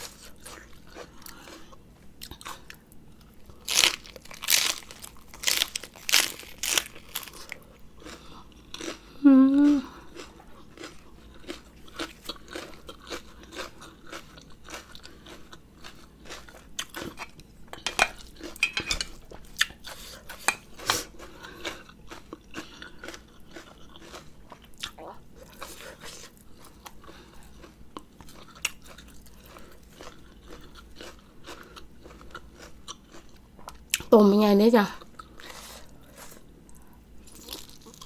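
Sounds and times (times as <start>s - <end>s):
close chewing and crunching: 0.0s - 34.2s, 34.9s - 38.0s.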